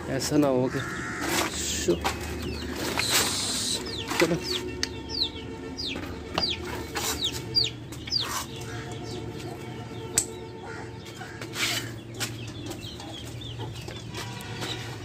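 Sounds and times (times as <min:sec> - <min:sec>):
chicks peeping: 0:00.1 - 0:15.0.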